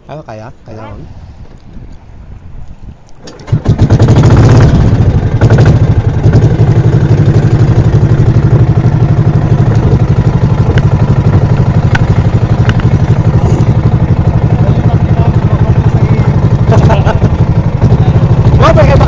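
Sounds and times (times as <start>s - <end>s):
boat engine chugging: 3.3s - 19.0s.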